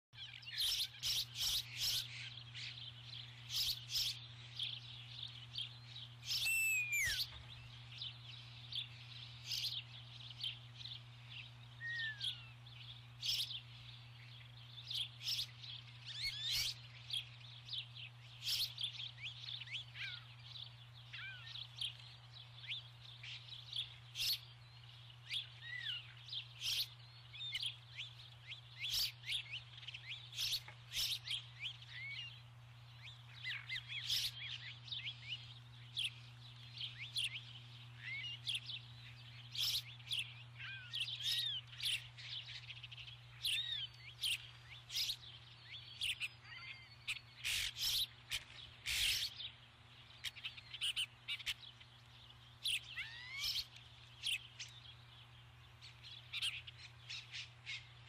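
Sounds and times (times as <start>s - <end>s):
songbirds chirping: 0.1s - 58.0s
steady low hum: 0.3s - 52.9s.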